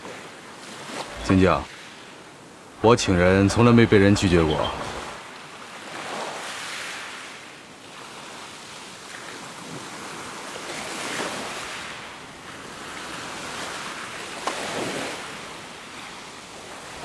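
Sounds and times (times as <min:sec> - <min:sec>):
ocean surf washing in: 0:00.0 - 0:17.0.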